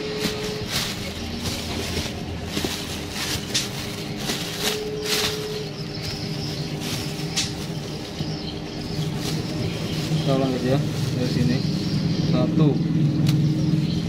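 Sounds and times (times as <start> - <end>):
plastic bag crinkling: 0.0 - 11.9
low background hum: 0.0 - 14.0.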